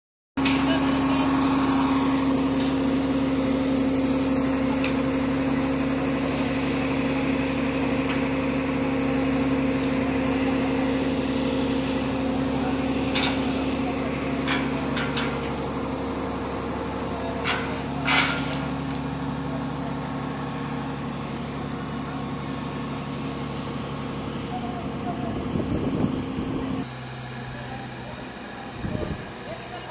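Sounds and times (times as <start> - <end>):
crane engine humming: 0.4 - 29.9.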